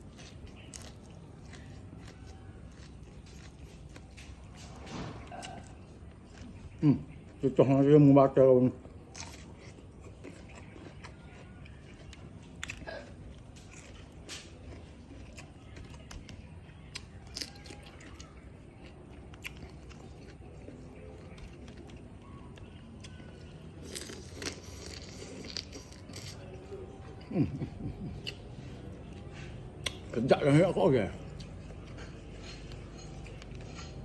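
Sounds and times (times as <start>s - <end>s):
person eating and chewing: 0.0s - 34.0s.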